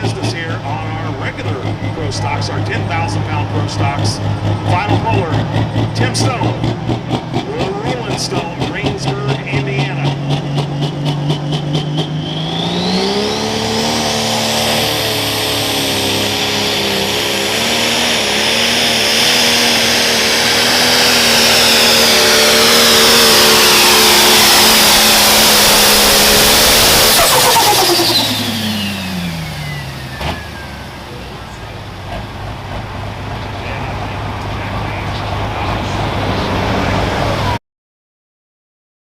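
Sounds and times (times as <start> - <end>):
diesel engine revving: 0.0 - 37.6
turbo whine: 0.0 - 37.6.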